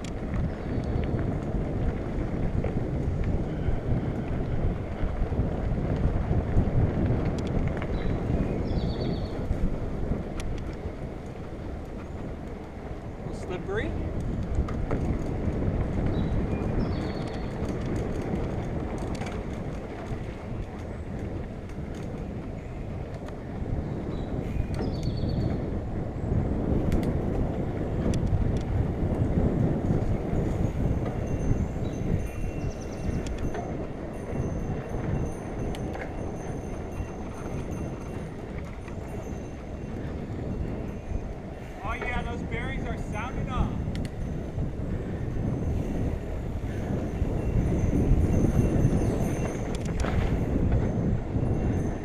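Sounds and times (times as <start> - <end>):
bike clicks and rattles: 0.0 - 52.0
bike tyre noise: 0.0 - 52.0
wind rumble on microphone: 0.0 - 52.0.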